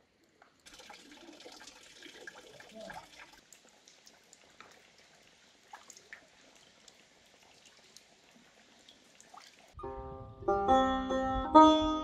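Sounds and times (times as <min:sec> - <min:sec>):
water trickling and dripping: 0:00.0 - 0:09.8.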